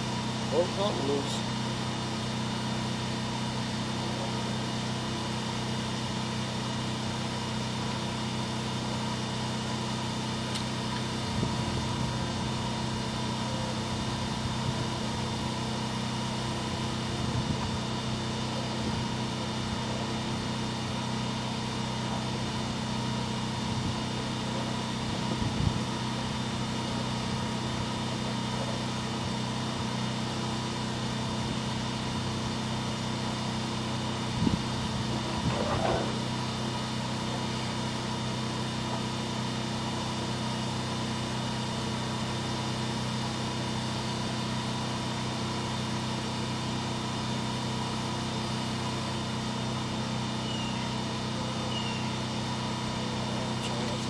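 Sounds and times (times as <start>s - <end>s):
drain-cleaning machine motor hum: 7.3s - 54.0s.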